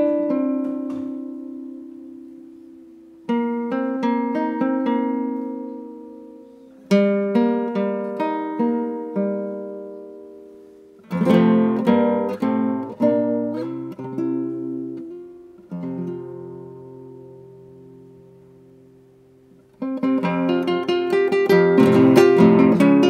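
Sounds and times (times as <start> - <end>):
nylon-string guitar playing: 0.0 - 23.0.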